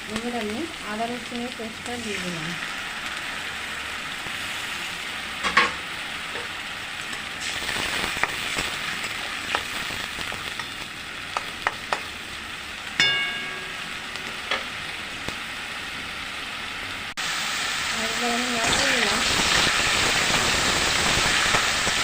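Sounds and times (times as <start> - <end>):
paste sizzling in hot oil: 0.0 - 22.0.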